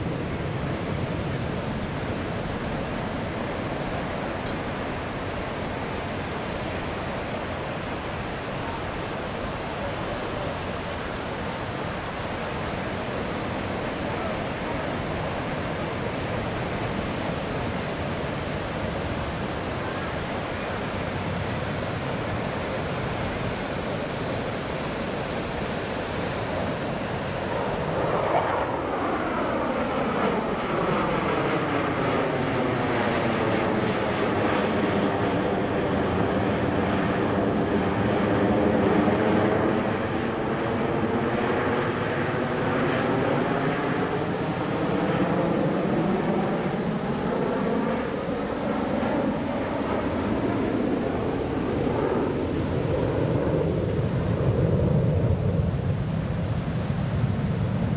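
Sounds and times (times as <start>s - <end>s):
jet engines roaring overhead: 0.0s - 57.9s.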